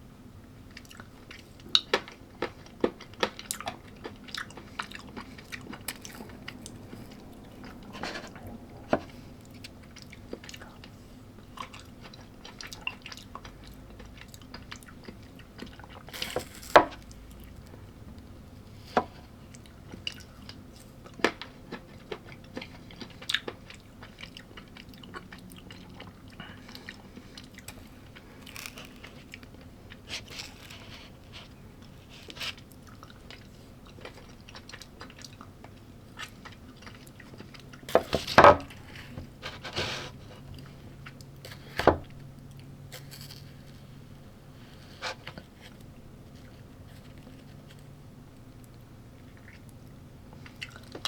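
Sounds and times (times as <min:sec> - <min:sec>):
person chewing food: 0:00.6 - 0:51.0
food crunching: 0:00.7 - 0:39.7, 0:42.4 - 0:51.0.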